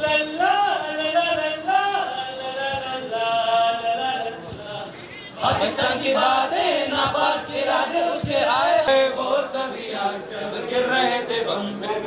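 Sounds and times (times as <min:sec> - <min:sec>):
group singing in unison: 0:00.0 - 0:12.0.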